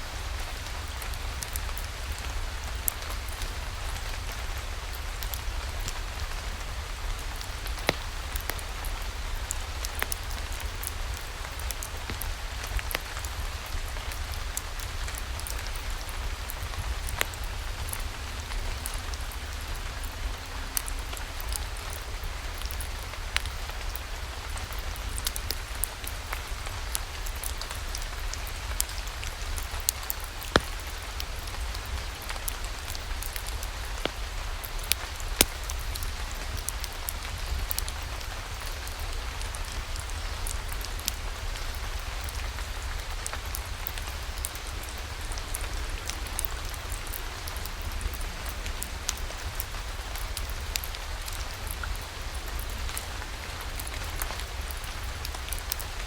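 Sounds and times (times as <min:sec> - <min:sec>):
fireplace fire crackling: 0:00.0 - 0:56.0
steady rain falling: 0:00.0 - 0:56.0.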